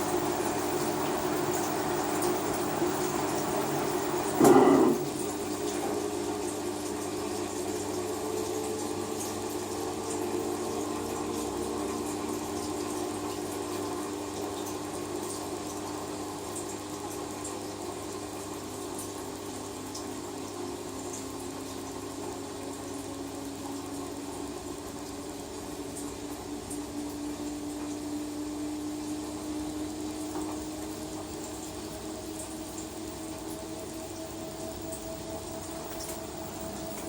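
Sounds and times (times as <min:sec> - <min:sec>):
washing machine running: 0:00.0 - 0:37.0.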